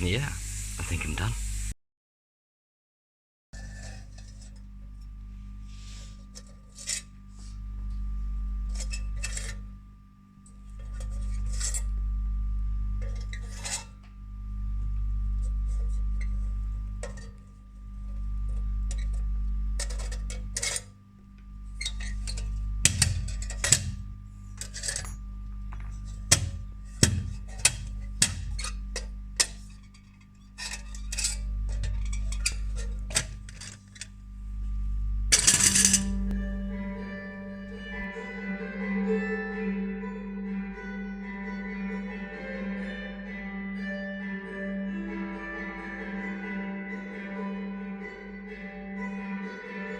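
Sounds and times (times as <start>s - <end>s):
background music low notes: 3.6s - 49.9s.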